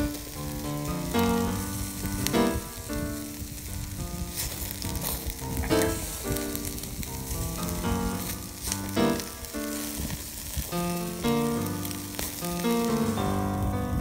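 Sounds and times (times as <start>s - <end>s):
background music: 0.0s - 14.0s
skewers sizzling on a grill: 0.0s - 14.0s.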